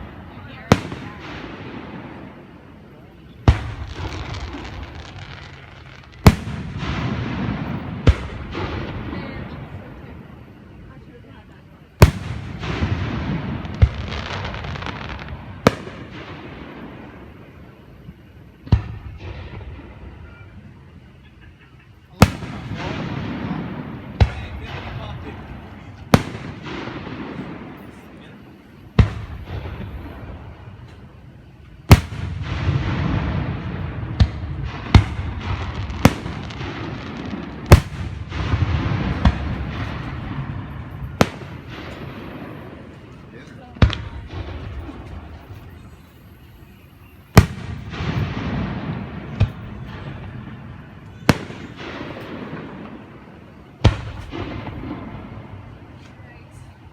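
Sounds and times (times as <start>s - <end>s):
fireworks crackling: 0.0s - 56.9s
fireworks exploding: 0.0s - 56.9s.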